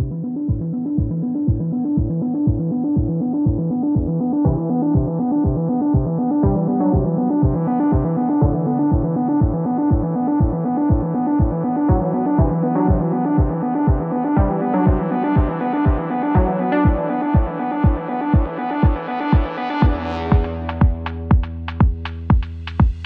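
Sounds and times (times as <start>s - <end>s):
electronic music: 0.0s - 23.0s
kick drum beat: 0.0s - 23.0s
synthesizer chords: 0.0s - 23.0s.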